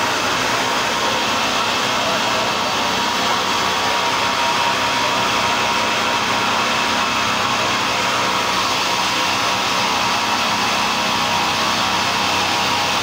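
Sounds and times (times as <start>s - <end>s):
heavy tunnelling machinery engines: 0.0s - 13.0s.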